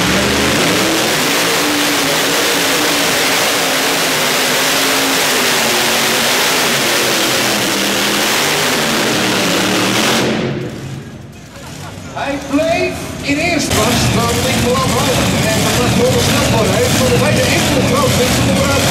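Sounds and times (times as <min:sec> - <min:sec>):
racing engine roaring: 0:00.0 - 0:18.9.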